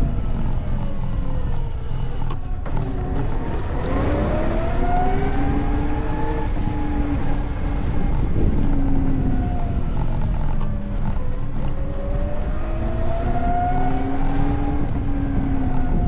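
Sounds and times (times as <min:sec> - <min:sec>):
electric motorcycle motor whine: 0:00.0 - 0:16.0
wind and road noise: 0:00.0 - 0:16.0.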